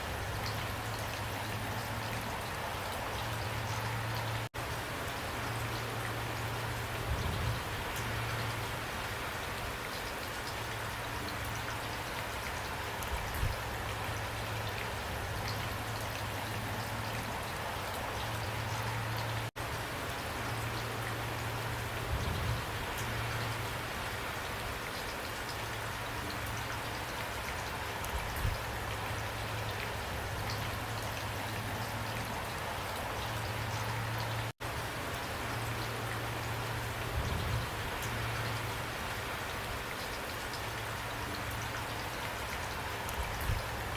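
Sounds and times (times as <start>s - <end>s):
individual raindrops: 0.0s - 43.9s
steady rain hiss: 0.0s - 43.9s.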